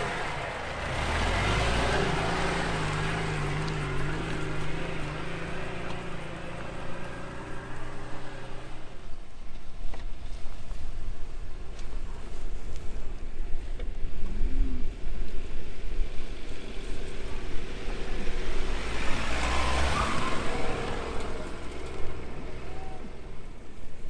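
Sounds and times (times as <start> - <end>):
car engine rumble: 0.0 - 24.0.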